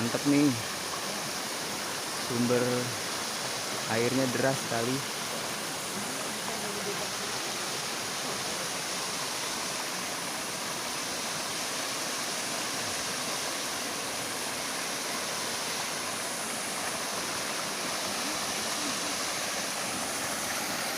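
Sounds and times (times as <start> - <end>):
waterfall rushing and splashing: 0.0 - 20.9.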